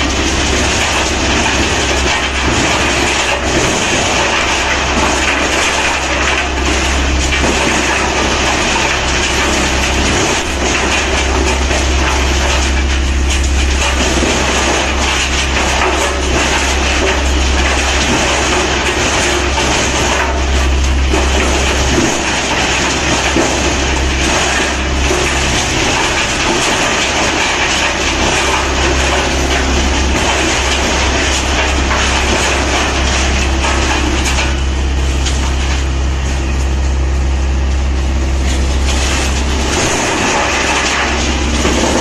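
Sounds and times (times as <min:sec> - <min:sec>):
steady low hum: 0:00.0 - 0:42.0
wood chipper rattling: 0:00.0 - 0:42.0.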